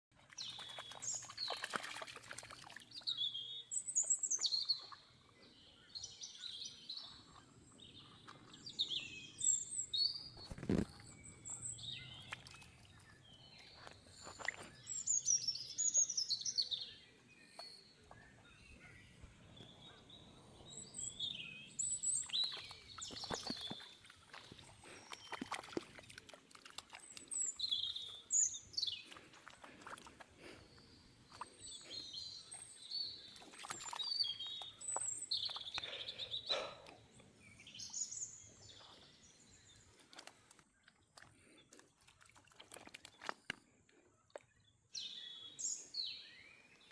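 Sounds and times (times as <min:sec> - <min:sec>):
birds chirping: 0:02.7 - 0:26.1, 0:26.9 - 0:41.8.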